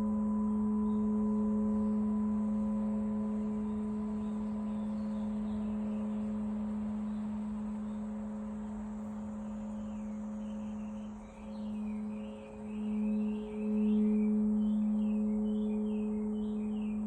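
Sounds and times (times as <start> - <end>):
singing bowl ringing: 0.0 - 17.0
faint bird chirps: 0.8 - 17.0.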